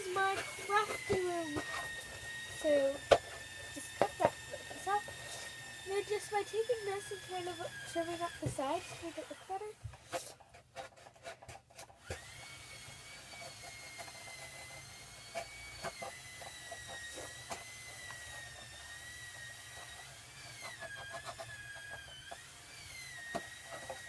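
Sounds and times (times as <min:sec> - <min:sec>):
razor blade scraping cardboard: 0:00.0 - 0:24.0.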